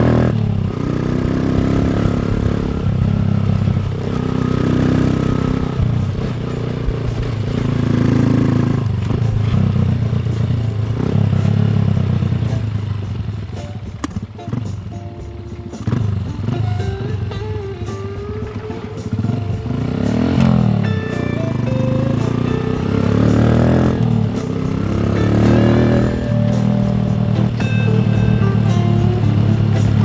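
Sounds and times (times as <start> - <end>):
motorcycle engine accelerating: 0.0 - 30.0
rattles and clicks from rough surface: 0.0 - 30.0.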